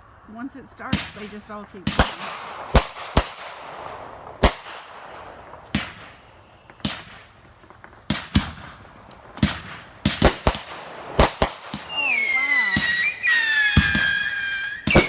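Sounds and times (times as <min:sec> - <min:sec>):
firework bangs: 0:00.8 - 0:15.0.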